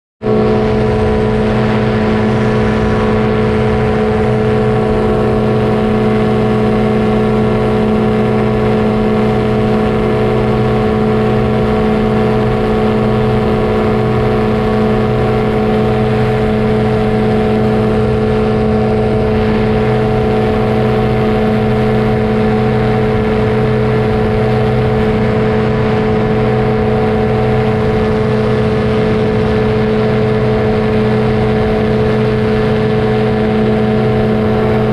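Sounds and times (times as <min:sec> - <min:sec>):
engine and propeller drone: 0:00.2 - 0:34.9.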